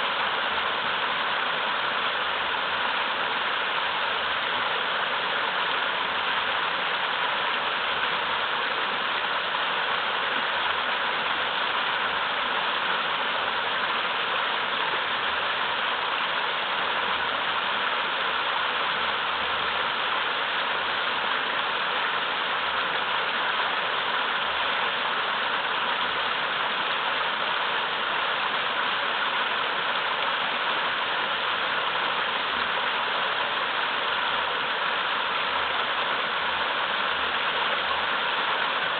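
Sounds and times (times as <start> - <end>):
waterfall splashing over boulders: 0.0 - 38.9.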